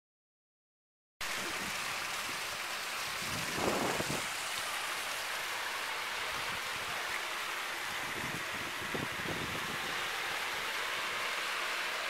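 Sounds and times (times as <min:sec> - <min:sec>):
waterfall splashing into pool: 0:01.2 - 0:12.0.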